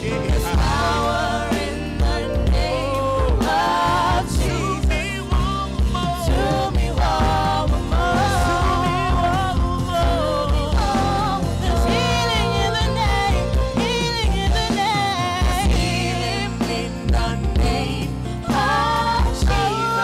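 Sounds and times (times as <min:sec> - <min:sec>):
drum beat: 0:00.0 - 0:16.2
bass line: 0:00.0 - 0:20.0
woman and man singing gospel: 0:00.0 - 0:20.0.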